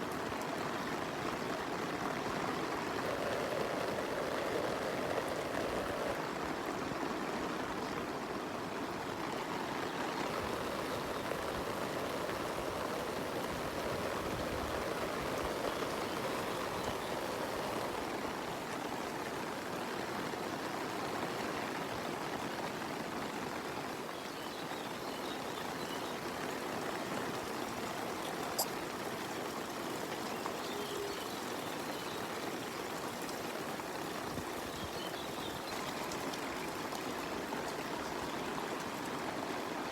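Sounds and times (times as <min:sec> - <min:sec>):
rain and running water: 0:00.0 - 0:39.9.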